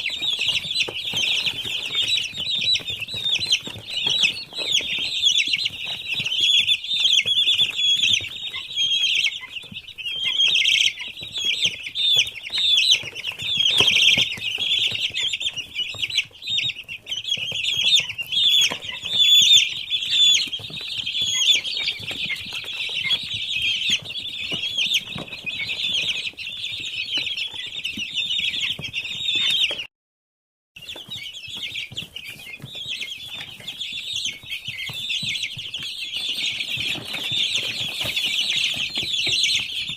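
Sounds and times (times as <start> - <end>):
chicks peeping: 0.0 - 29.9, 30.8 - 39.9.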